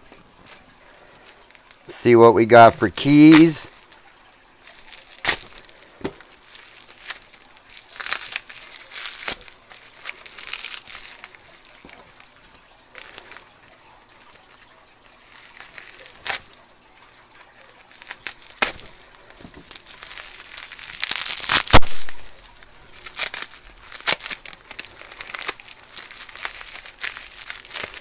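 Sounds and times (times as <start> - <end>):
bubble wrap crinkling: 0.0 - 28.0.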